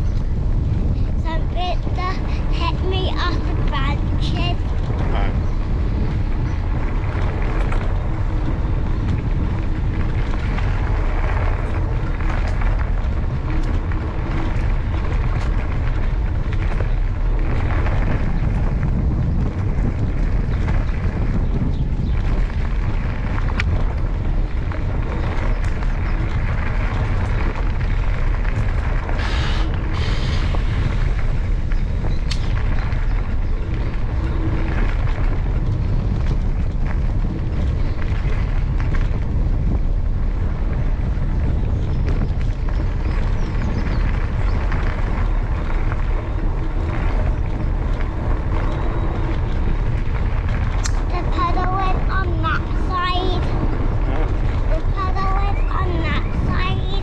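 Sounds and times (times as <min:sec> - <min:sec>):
bike rolling rumble: 0:00.0 - 0:57.0
wind buffeting microphone: 0:00.0 - 0:57.0.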